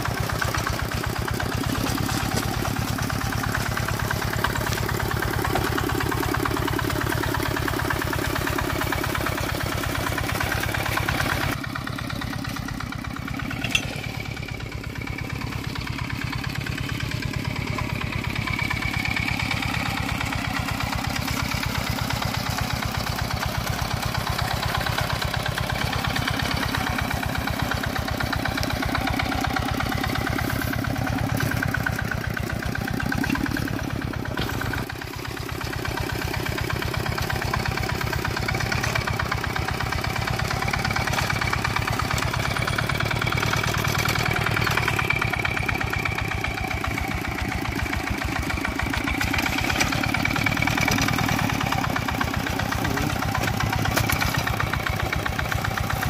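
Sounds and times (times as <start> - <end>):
single-cylinder diesel engine running: 0.0 - 56.0.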